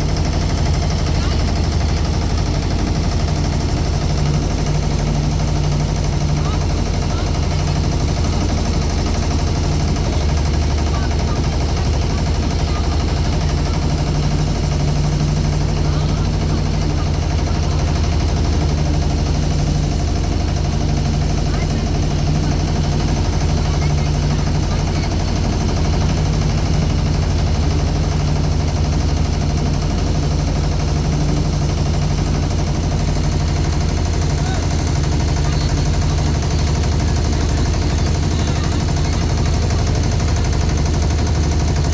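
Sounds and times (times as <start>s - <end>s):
motorboat engine throbbing: 0.0s - 41.9s.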